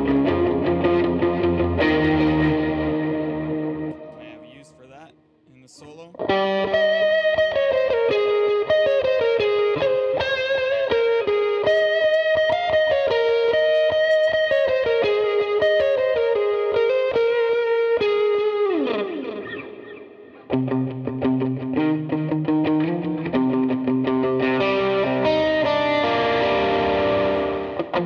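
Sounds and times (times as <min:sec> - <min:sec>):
electric guitar lead line: 0:00.0 - 0:05.0, 0:05.6 - 0:28.0.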